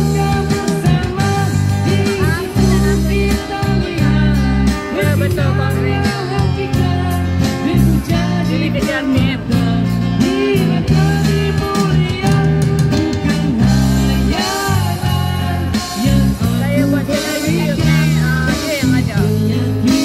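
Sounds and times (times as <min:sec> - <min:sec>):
acoustic guitar: 0:00.0 - 0:20.0
keyboard: 0:00.0 - 0:20.0
man singing into a microphone: 0:00.0 - 0:20.0
second guitar: 0:00.0 - 0:20.0.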